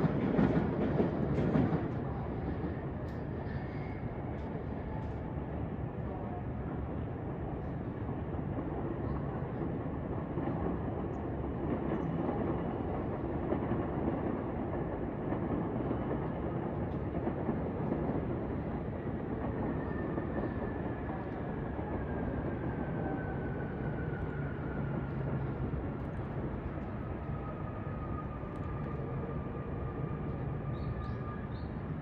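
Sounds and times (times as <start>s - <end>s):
electric train rumbling: 0.0s - 6.1s, 6.8s - 32.0s.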